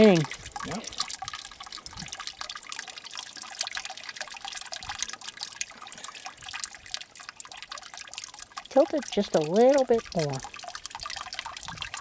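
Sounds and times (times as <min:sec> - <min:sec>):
liquid dripping and splashing: 0:00.0 - 0:12.0.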